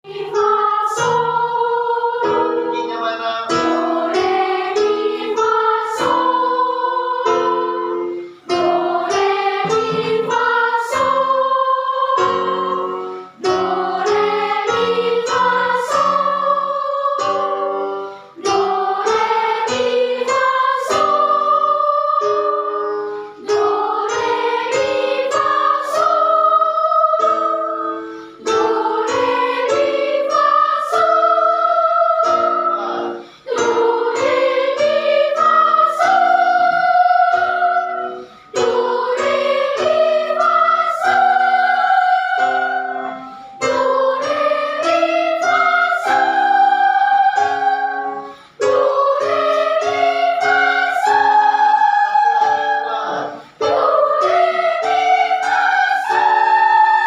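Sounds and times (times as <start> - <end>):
children's choir singing: 0.0 - 57.0
instrumental accompaniment: 0.0 - 57.0.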